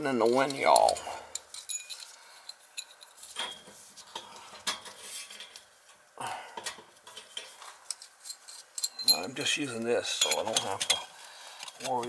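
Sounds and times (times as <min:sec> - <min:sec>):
light metal clinks and scrapes: 0:00.3 - 0:06.0, 0:06.8 - 0:12.0.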